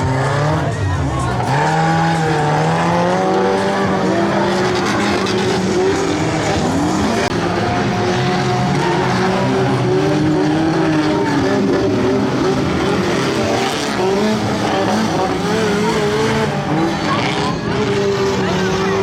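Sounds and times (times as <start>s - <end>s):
stock car engines revving: 0.0s - 19.0s.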